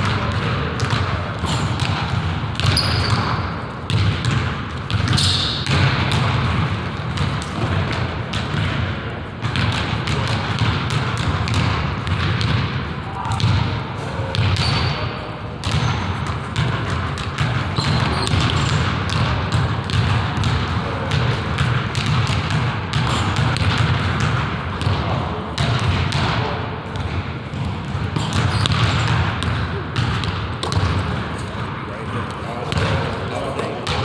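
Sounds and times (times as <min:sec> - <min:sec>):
basketballs bouncing on wooden floor: 0:00.0 - 0:34.0.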